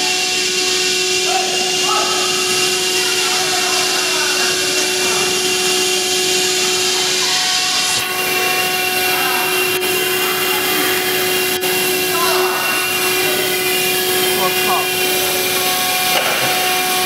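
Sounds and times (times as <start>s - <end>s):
router machine hiss and whine: 0.0s - 17.0s.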